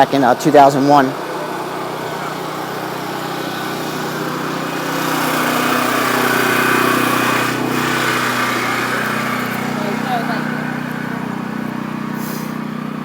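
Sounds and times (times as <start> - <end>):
combustion engine running: 0.0 - 13.0.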